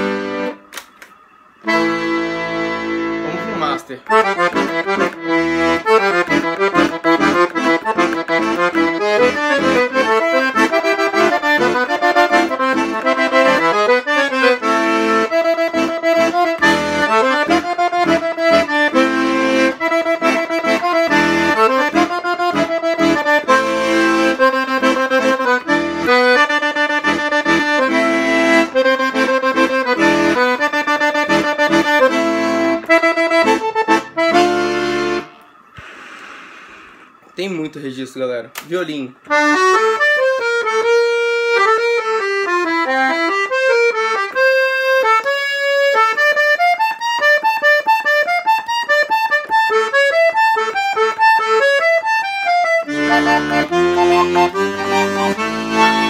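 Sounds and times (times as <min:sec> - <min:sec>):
accordion playing: 0:00.0 - 0:56.0.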